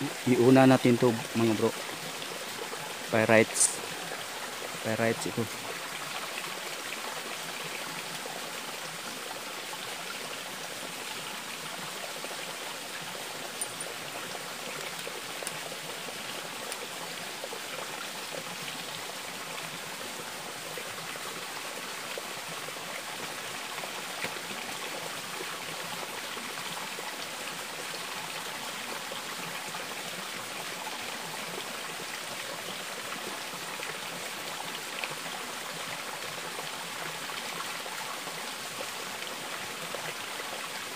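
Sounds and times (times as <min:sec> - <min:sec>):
water trickling over rocks: 0:00.0 - 0:40.9.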